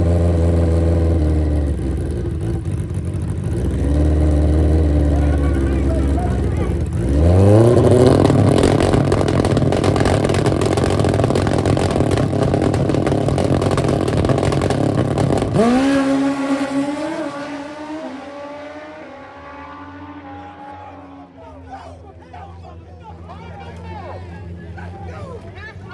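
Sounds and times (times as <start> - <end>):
motorcycle engine at full throttle: 0.0 - 21.4.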